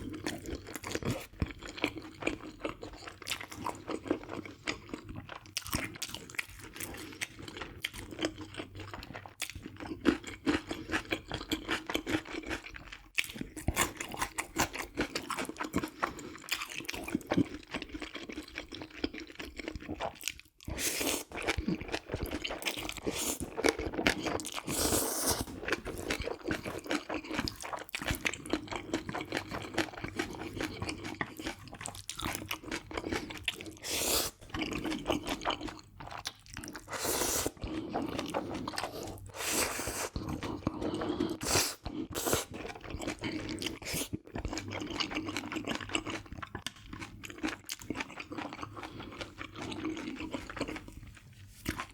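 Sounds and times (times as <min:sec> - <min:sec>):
crunching and chewing food: 0:00.0 - 0:51.9.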